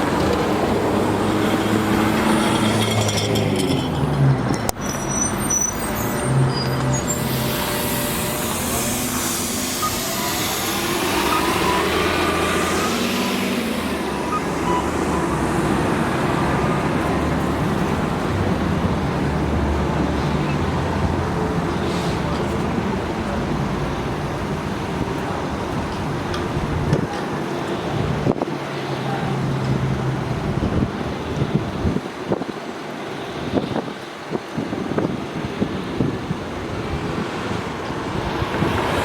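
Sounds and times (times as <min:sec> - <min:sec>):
heavy vehicle engines running: 0:00.0 - 0:39.0
road traffic noise: 0:00.0 - 0:39.0.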